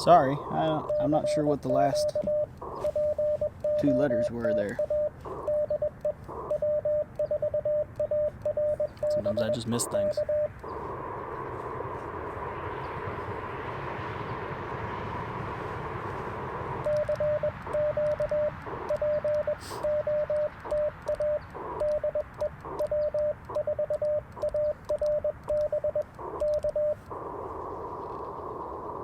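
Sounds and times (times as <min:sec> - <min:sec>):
morse code sidetone: 0:00.0 - 0:12.5, 0:16.1 - 0:27.4
radio band hiss: 0:00.0 - 0:29.0.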